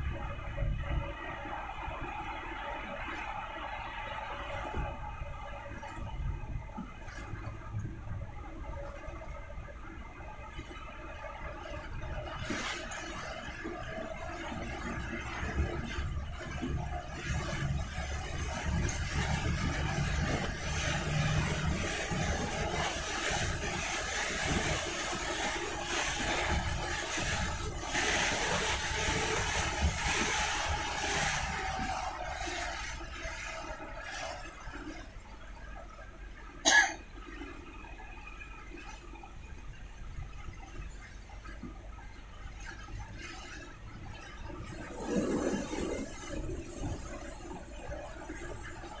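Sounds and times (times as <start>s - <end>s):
tyres on wet road: 0.0s - 39.6s
low engine rumble: 0.0s - 49.0s
rain on windscreen: 0.0s - 49.0s.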